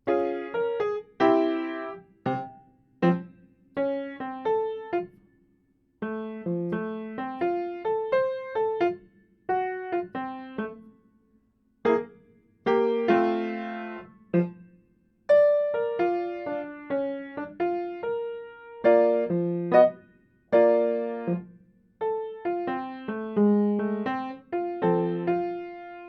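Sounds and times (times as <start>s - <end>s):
slow solo piano: 0.0s - 5.2s, 6.0s - 10.9s, 11.8s - 14.7s, 15.3s - 26.0s.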